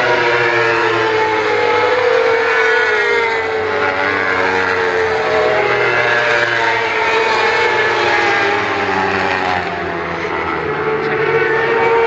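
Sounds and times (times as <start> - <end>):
race motorcycles passing: 0.0 - 12.0.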